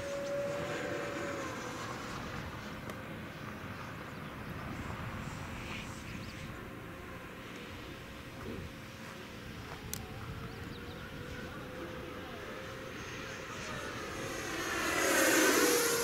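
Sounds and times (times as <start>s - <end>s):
low rushing noise: 0.0s - 16.0s
model jet engine whine: 0.0s - 16.0s.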